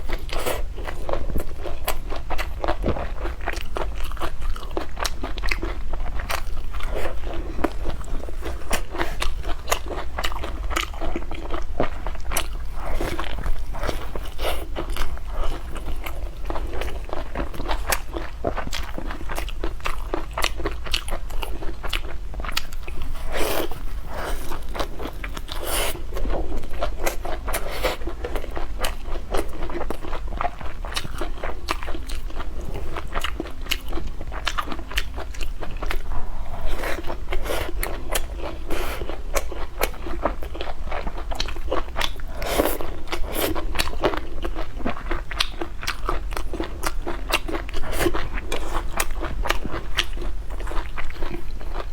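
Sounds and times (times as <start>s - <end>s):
steady low hum: 0.0s - 51.8s
person crunching and chewing: 0.0s - 51.9s.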